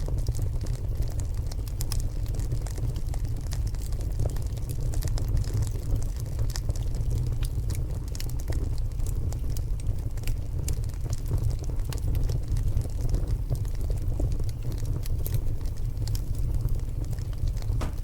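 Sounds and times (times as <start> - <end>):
log fire crackling: 0.0 - 18.0.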